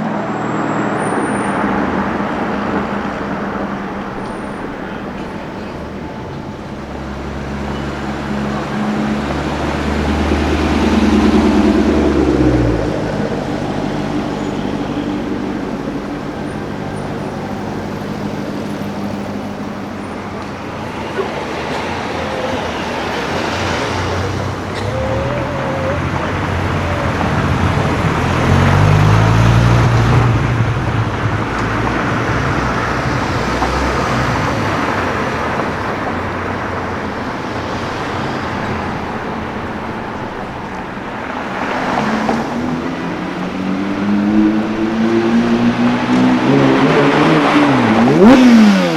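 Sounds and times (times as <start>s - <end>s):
car engines passing: 0.0s - 48.9s
city traffic noise: 0.0s - 48.9s
engine revving: 1.4s - 48.9s.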